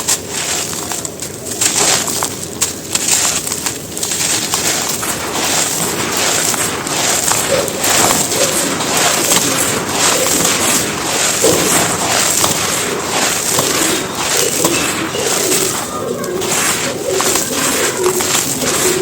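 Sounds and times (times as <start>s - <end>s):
cement chunks being crushed: 0.0s - 19.0s.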